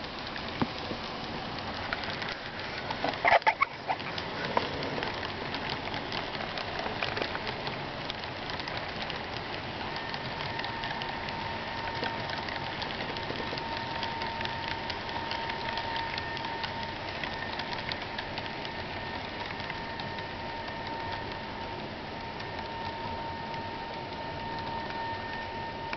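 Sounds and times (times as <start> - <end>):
model train wheels clicking: 0.0 - 25.9.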